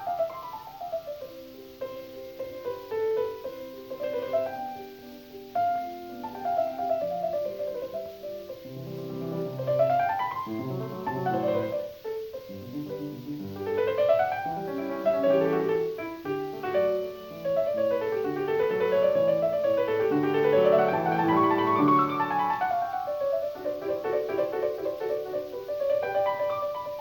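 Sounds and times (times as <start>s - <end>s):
solo classical piano music: 0.0s - 27.0s.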